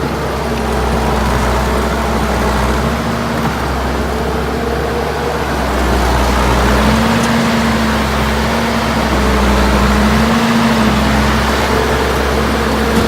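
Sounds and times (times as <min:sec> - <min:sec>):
skid steer diesel engine running: 0:00.0 - 0:13.0.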